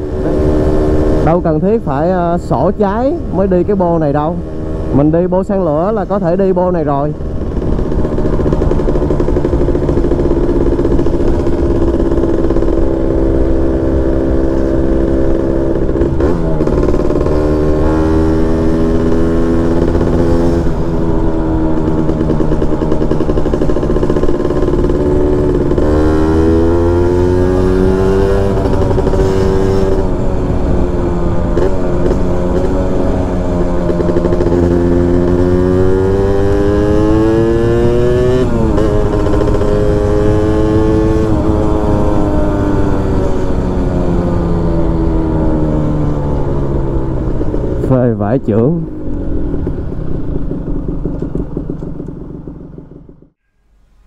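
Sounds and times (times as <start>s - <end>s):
two-stroke motorcycle accelerating: 0.0s - 53.5s.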